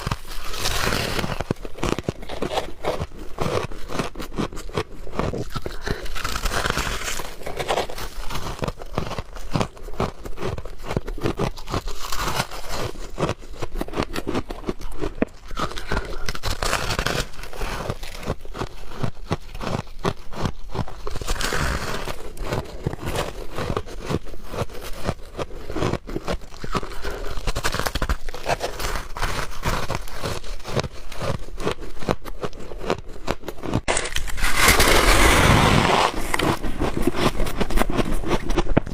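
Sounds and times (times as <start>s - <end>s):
person chewing ice: 0.0s - 38.9s.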